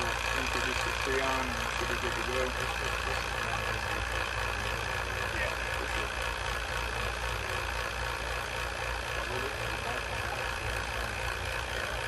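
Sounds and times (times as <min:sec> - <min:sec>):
vacuum pump running: 0:00.0 - 0:12.0.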